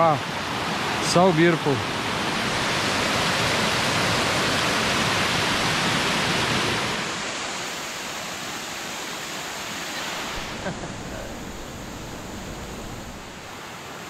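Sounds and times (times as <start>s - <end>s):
waterfall rushing and splashing: 0.0s - 14.0s.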